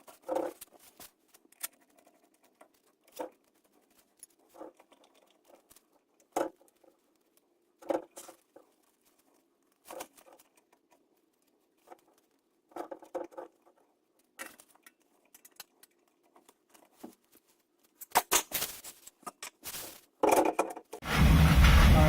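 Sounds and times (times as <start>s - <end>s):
hands clicking and scraping parts: 0.0s - 22.0s.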